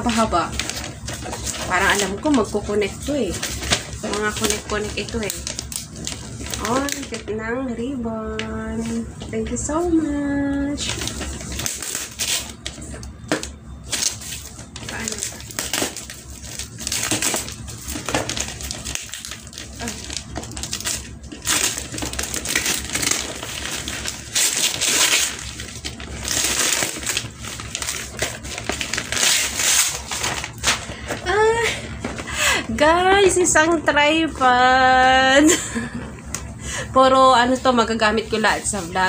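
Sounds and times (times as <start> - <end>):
wrapping paper ripping and rustling: 0.0 - 7.4, 8.4 - 34.4, 37.4 - 39.0.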